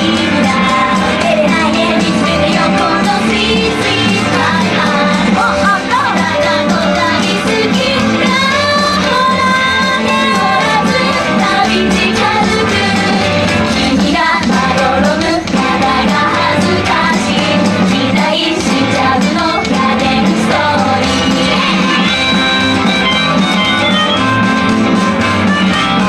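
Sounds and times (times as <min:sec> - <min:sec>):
women singing into microphones: 0:00.0 - 0:21.9
upbeat pop song over sound system: 0:00.0 - 0:26.0.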